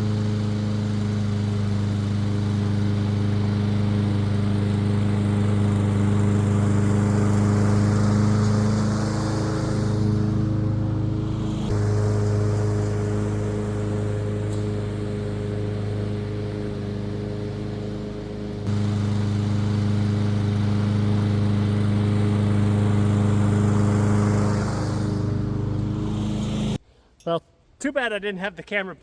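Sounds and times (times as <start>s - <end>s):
push mower engine running: 0.0s - 26.8s.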